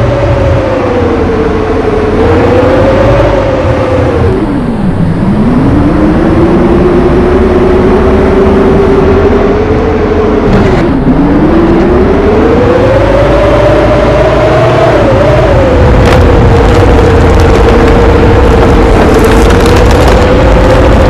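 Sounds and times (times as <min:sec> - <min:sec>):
vehicle motor whining: 0:00.0 - 0:21.0.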